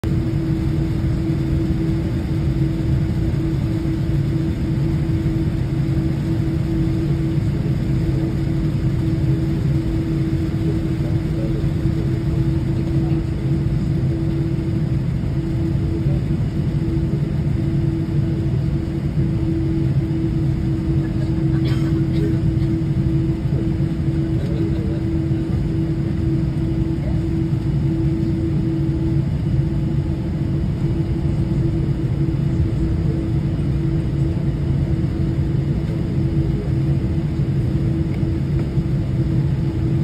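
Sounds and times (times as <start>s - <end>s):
airliner cabin engine rumble: 0.0s - 40.0s.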